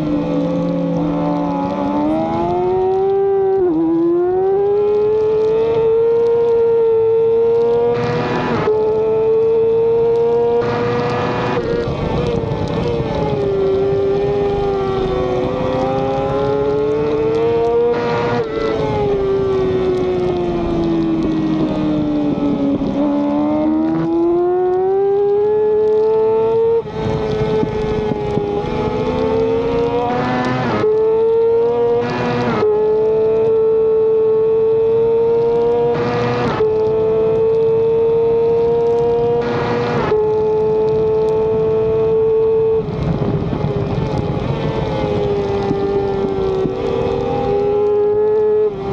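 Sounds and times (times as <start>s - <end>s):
racing motorcycle engine revving: 0.0s - 48.9s.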